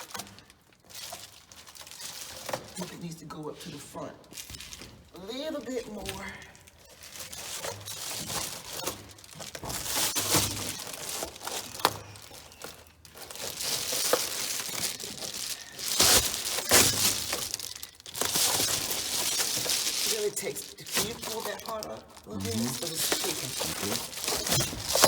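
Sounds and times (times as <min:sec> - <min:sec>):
insulation sheet crinkling: 0:00.0 - 0:25.0.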